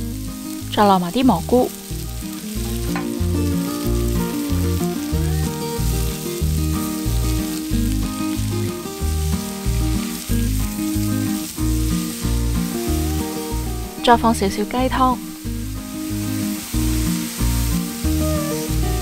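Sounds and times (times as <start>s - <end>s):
background music with bass line: 0.0s - 19.0s
vegetables sizzling in pan: 0.0s - 19.0s.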